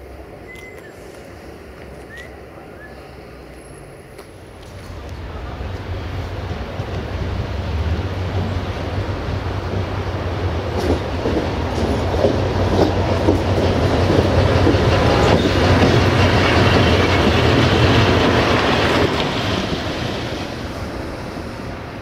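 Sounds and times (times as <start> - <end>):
locomotive engine hum: 0.0 - 22.0.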